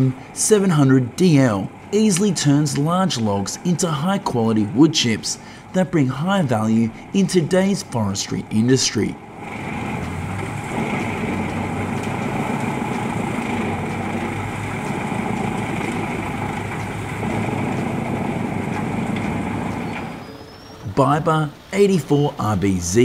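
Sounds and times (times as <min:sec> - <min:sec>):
wood chipper running: 0:00.0 - 0:21.7
high machine whine: 0:00.0 - 0:23.0.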